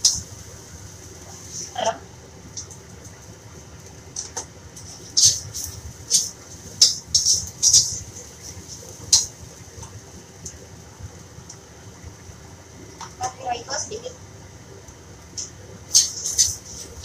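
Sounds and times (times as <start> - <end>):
faint frying sizzle: 0.0 - 17.0.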